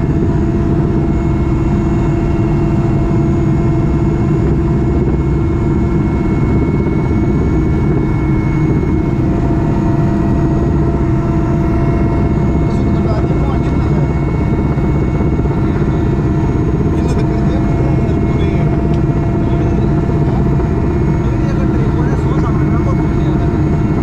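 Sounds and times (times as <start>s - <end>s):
helicopter engine drone: 0.0s - 24.0s.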